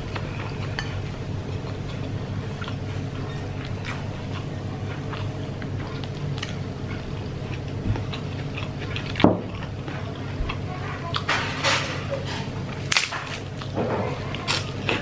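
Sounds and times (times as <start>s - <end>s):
close-up chewing: 0.0s - 15.0s.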